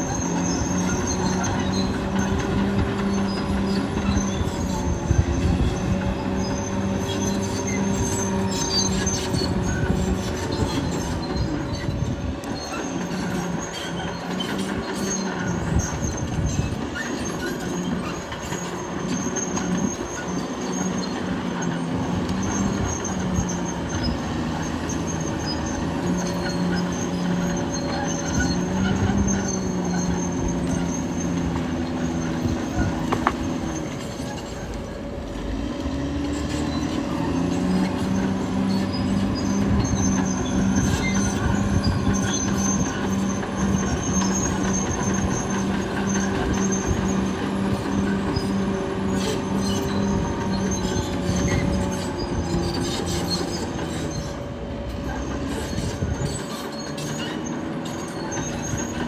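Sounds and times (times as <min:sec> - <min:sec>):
bulldozer diesel engine running: 0:00.0 - 0:59.0
steel tracks squealing and clattering: 0:00.0 - 0:59.0.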